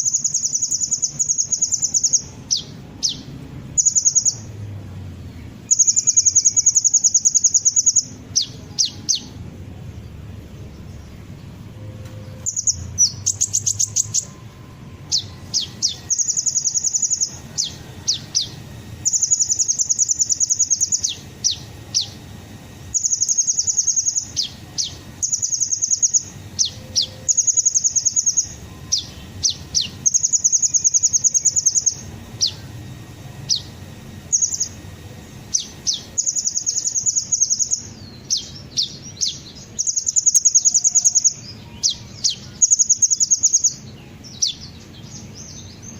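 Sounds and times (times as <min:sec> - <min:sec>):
sunbird singing trills: 0:00.0 - 0:45.9.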